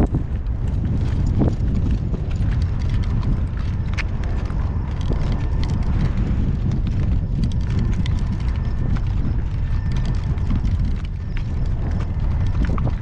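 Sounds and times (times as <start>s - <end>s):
horse hoofbeats: 0.0s - 13.0s
wind buffeting microphone: 0.0s - 13.0s.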